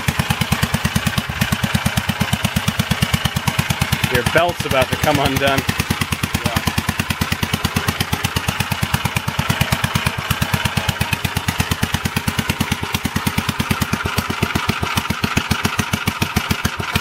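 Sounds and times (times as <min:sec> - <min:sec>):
single-cylinder tractor engine running: 0:00.0 - 0:17.0.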